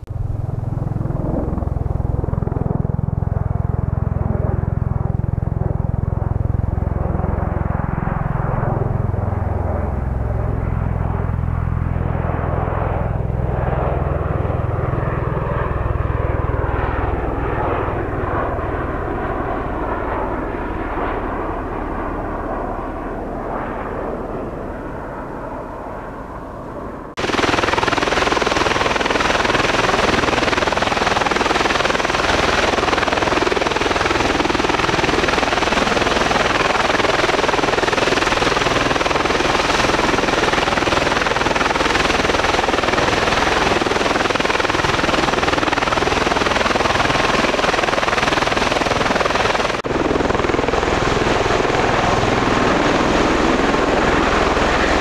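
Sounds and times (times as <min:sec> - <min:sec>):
aircraft engines and rotors: 0:00.0 - 0:55.0.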